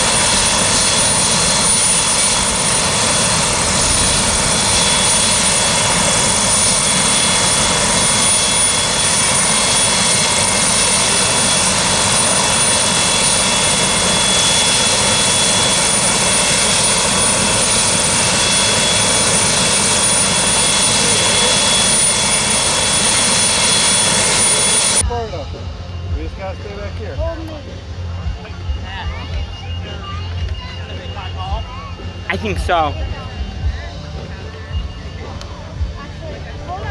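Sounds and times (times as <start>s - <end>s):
helicopter engine and rotor: 0.0s - 36.9s
steady high whine: 0.0s - 36.9s.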